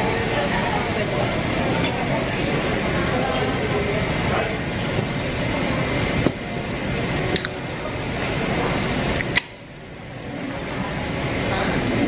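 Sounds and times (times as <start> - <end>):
restaurant room noise: 0.0 - 12.0.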